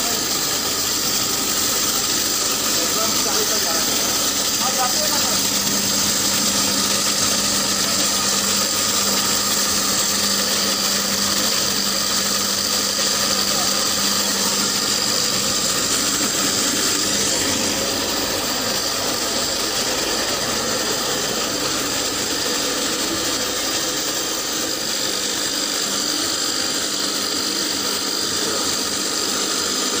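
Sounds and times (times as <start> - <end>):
extruder machine whining: 0.0 - 30.0.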